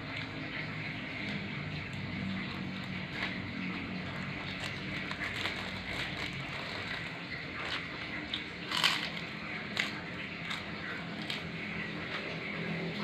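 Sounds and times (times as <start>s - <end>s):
crunching crisp cracker: 0.0s - 13.0s.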